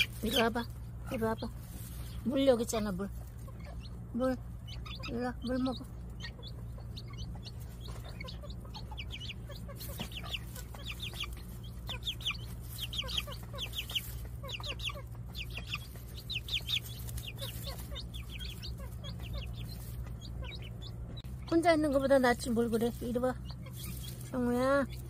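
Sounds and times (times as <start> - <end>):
chicks peeping: 0.0 - 25.0
steady low hum: 0.0 - 25.0.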